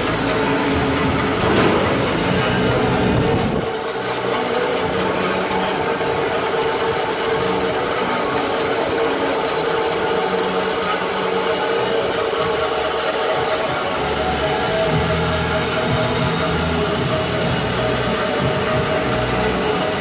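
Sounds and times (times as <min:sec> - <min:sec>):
band saw machine hum: 0:00.0 - 0:20.0.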